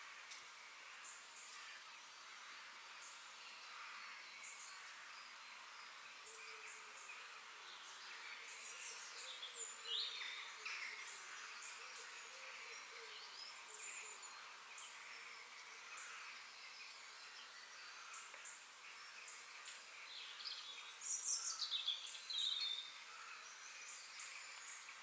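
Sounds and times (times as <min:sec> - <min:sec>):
insect hum: 0:00.0 - 0:25.0.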